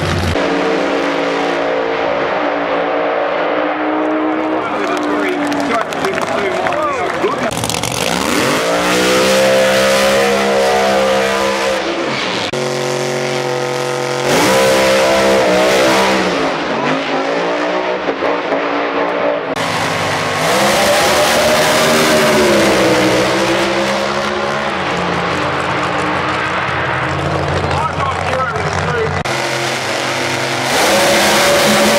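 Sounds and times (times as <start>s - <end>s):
drag car engines revving: 0.0s - 31.9s
tyres spinning in burnout: 0.0s - 31.9s.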